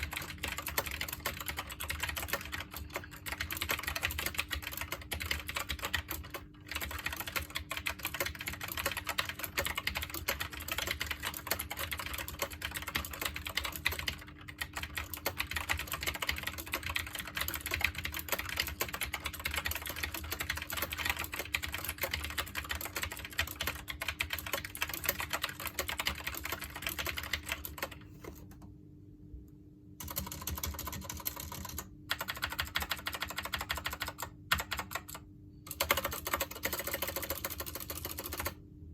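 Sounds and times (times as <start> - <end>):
keyboard typing clacks: 0.0 - 28.6, 30.0 - 38.6.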